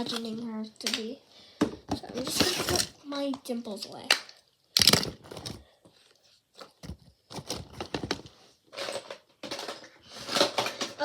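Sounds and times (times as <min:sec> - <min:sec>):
plastic toys rustling and clattering: 0:00.0 - 0:01.2, 0:01.9 - 0:11.0.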